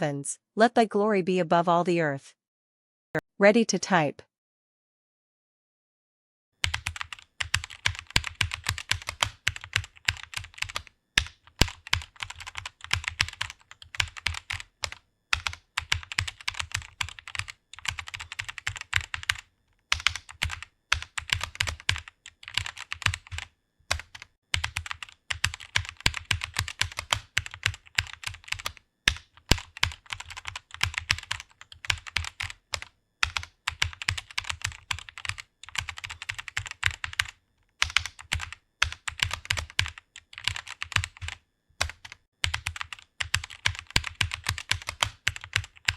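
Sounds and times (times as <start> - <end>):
typing on computer keyboard: 6.6 - 45.9.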